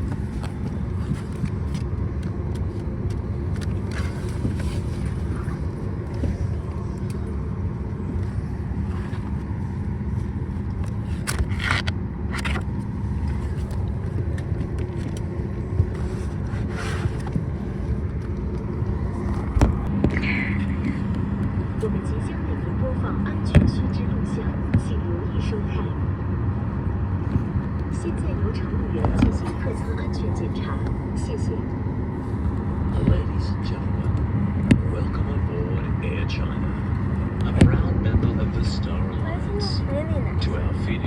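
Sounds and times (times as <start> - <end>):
vehicle interior rumble: 0.0 - 41.0.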